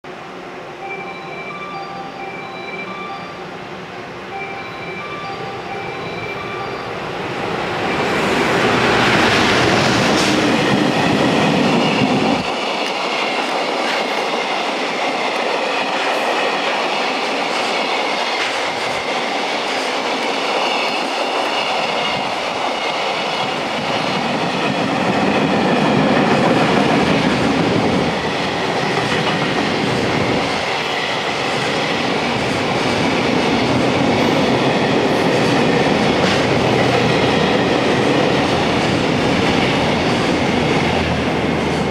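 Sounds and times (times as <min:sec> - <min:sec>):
electric locomotive passing: 0:00.1 - 0:41.9
train wheels rumbling on rails: 0:04.9 - 0:41.9.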